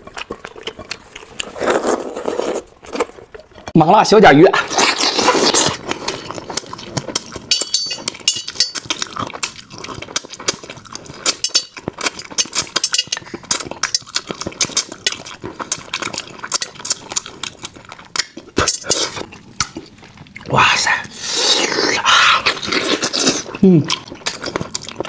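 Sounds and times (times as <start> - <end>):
wet chewing and smacking: 0.0 - 3.8, 4.6 - 25.0.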